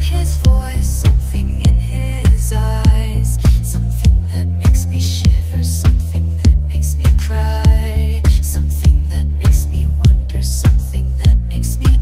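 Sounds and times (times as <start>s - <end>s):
deep bass: 0.0s - 12.0s
kick drum beat: 0.0s - 12.0s.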